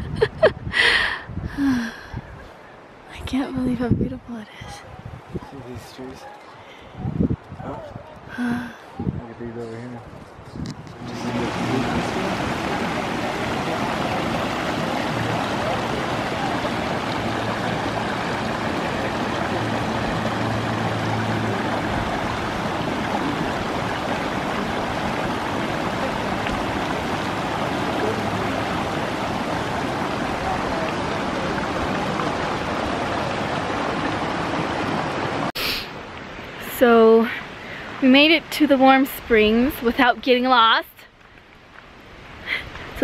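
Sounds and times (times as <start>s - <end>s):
stream of running water: 0.0s - 43.0s.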